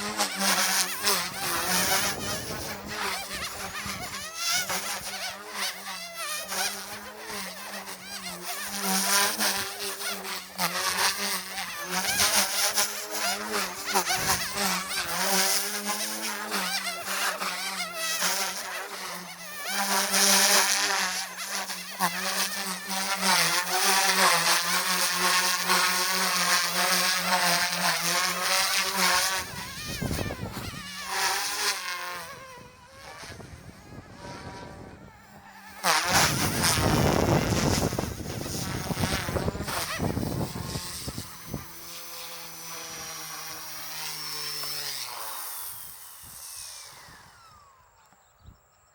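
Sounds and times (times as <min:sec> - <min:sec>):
rc helicopter buzzing whine: 0:00.0 - 0:48.9.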